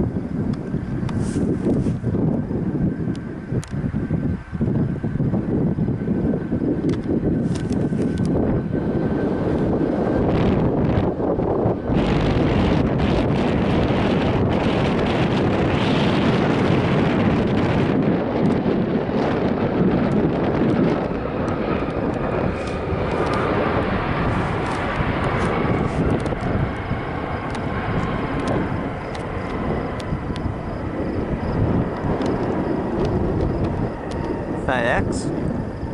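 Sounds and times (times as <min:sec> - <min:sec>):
jet engines running: 0:00.0 - 0:35.9.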